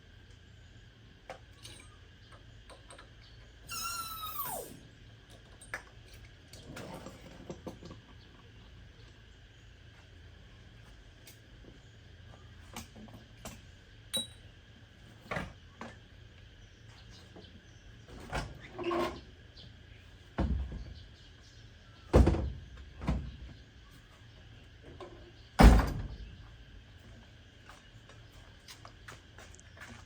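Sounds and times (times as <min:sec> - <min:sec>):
faint background hum: 0:00.0 - 0:30.0.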